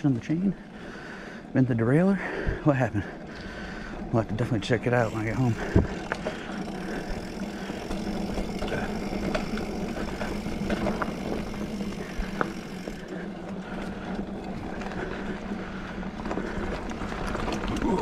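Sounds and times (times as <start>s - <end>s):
bike tyres rolling on dirt: 0.0s - 18.0s
bike clicks and rattles: 3.2s - 18.0s.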